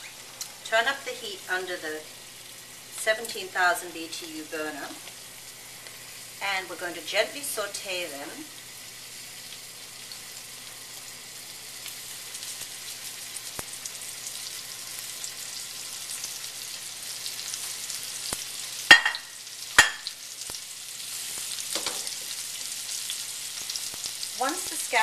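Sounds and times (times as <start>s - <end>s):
scallops sizzling in hot oil: 0.0s - 25.0s.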